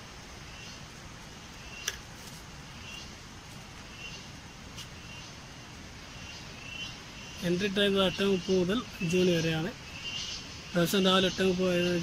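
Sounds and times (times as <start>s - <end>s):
insects chirping: 0.0s - 12.0s
steady low hiss: 0.0s - 12.0s.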